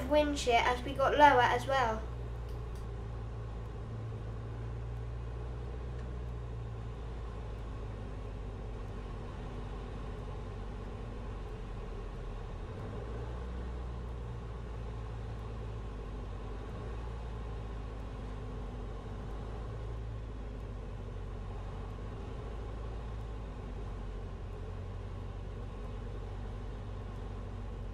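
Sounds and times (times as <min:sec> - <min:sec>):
light aircraft engine: 0:00.0 - 0:27.9.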